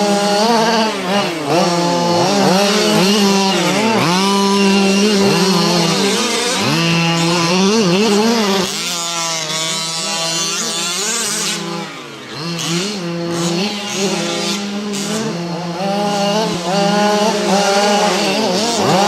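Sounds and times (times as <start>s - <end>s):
small two-stroke engines revving: 0.0s - 19.0s.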